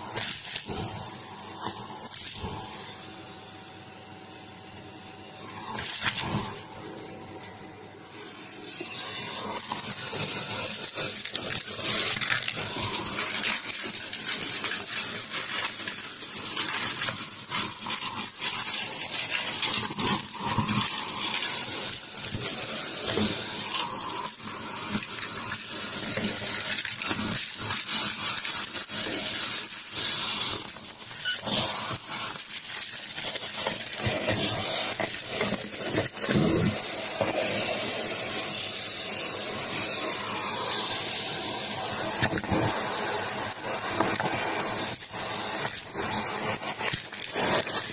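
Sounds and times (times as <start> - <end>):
vacuum cleaner on carpet: 0.0 - 47.9.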